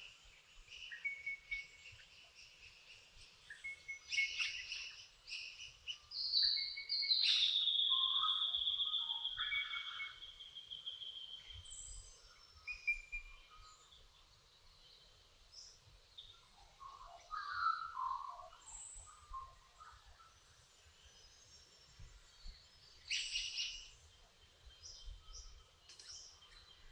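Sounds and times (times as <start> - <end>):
birds singing and chirping: 0.0 - 14.2, 14.8 - 26.9.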